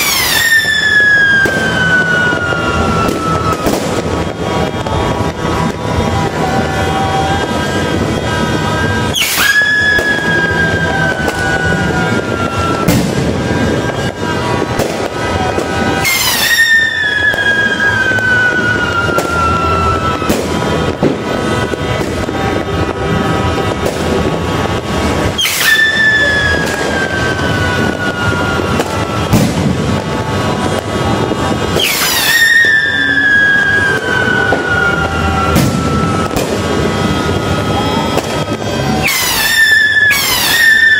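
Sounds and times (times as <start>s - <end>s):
fireworks crackling and banging: 0.0s - 40.9s
whistling fireworks: 0.0s - 40.9s.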